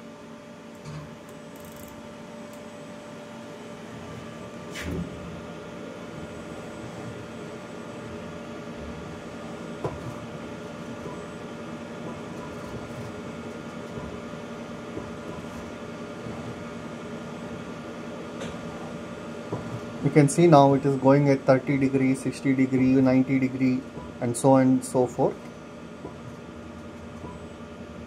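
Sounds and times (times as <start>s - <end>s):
milling machine hum: 0.0s - 28.0s.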